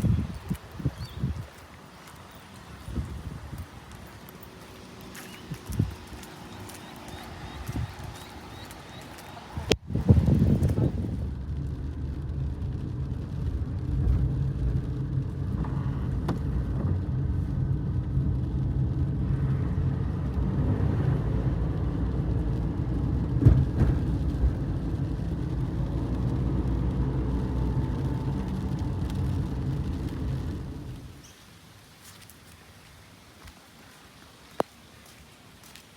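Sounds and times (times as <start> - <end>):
vehicle engine rumbling: 0.0 - 31.5.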